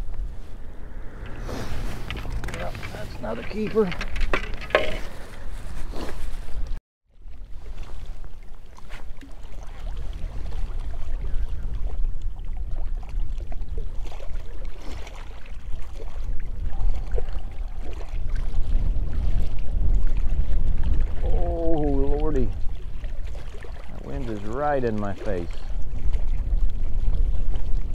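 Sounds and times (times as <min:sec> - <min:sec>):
wind buffeting microphone: 0:00.0 - 0:08.2, 0:09.5 - 0:27.9
lake water lapping at shore: 0:00.0 - 0:27.9.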